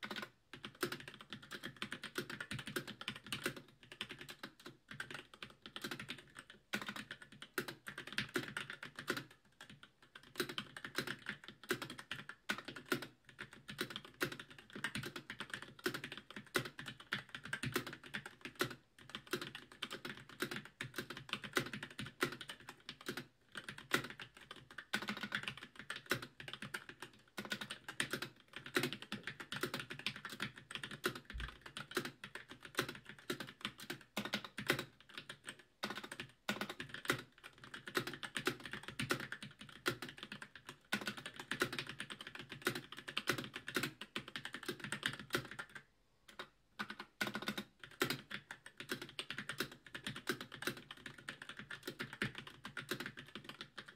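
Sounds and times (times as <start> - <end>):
mechanical keyboard typing: 0.0 - 53.9.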